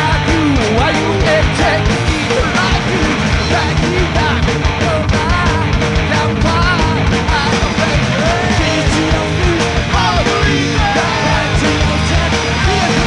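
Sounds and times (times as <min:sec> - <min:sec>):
punk rock band playing: 0:00.0 - 0:13.0.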